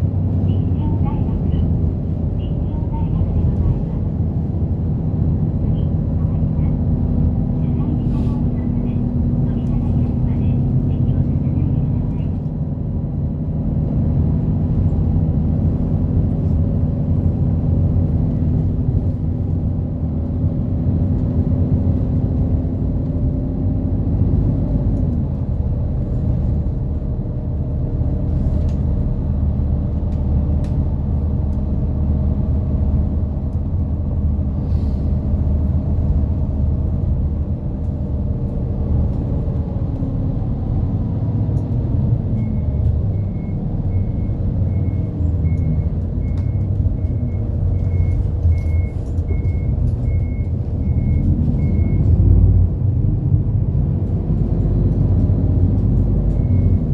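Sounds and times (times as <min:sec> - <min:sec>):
bus engine drone: 0:00.0 - 0:56.9
road rumble: 0:00.0 - 0:56.9.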